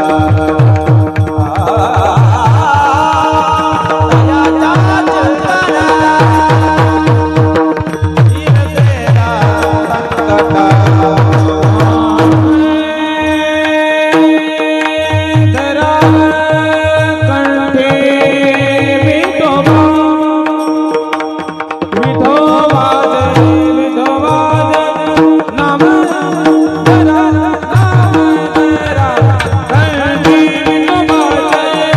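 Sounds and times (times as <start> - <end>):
devotional song singing: 0.0 - 31.9
harmonium drone and melody: 0.0 - 31.9.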